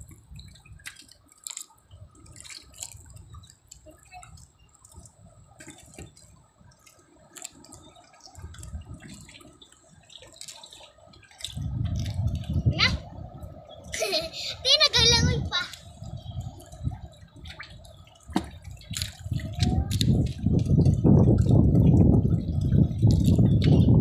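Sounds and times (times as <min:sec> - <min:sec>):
water splashing and dripping: 0:00.0 - 0:24.0.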